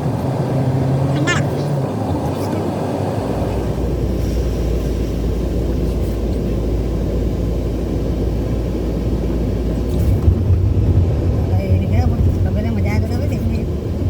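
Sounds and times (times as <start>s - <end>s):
low rumbling noise: 0.0s - 14.0s.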